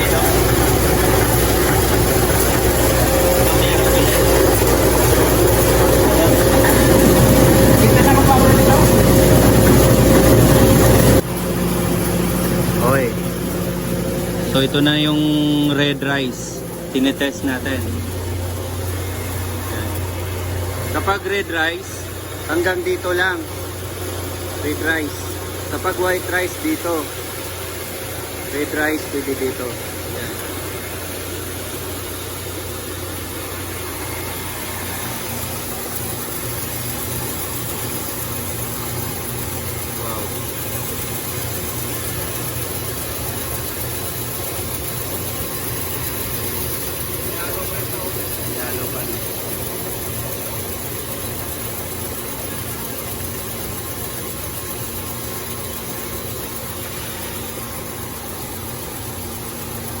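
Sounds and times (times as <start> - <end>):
rice milling machine running: 0.0 - 60.0.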